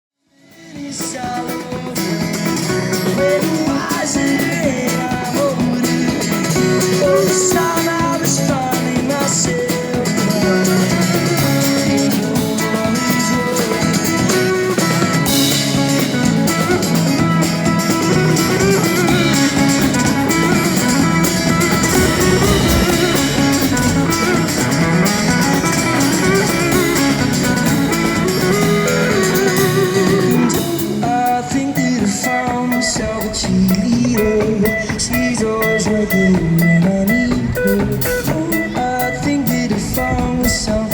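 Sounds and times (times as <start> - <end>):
song with guitar drums and singing: 0.4 - 40.9.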